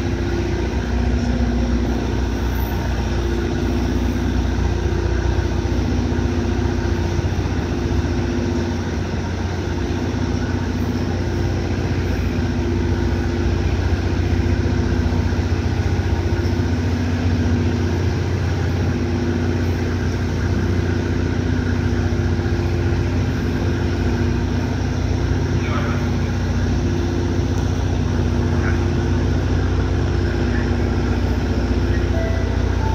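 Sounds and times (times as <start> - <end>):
ship engines droning: 0.0 - 32.9.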